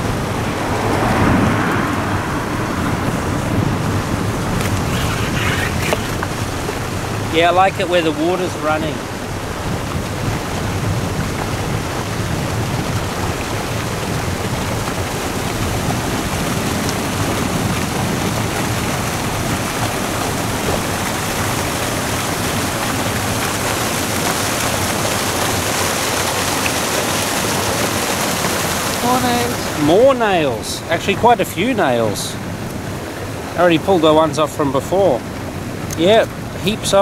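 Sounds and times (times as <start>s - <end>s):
water rushing over rocks: 0.0s - 37.0s.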